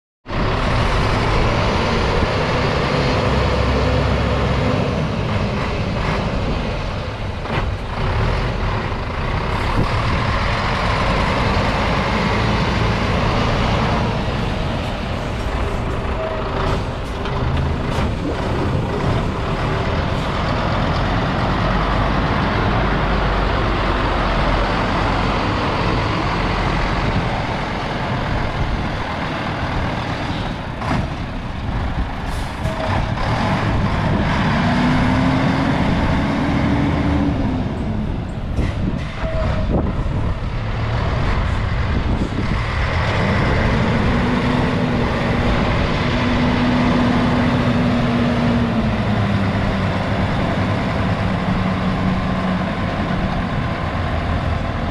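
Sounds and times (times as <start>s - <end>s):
diesel truck engine running: 0.3s - 54.9s.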